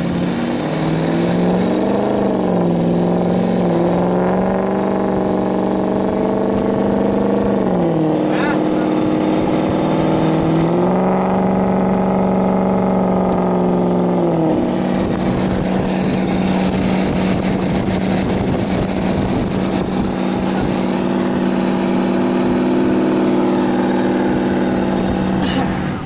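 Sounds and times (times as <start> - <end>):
diesel truck engine pulling: 0.0 - 26.0.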